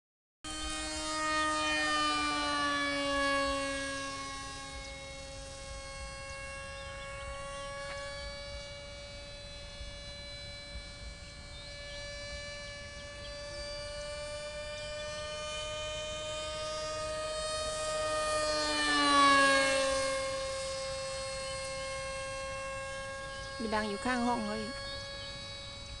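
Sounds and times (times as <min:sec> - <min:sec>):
model jet motor whining: 0:00.5 - 0:26.0.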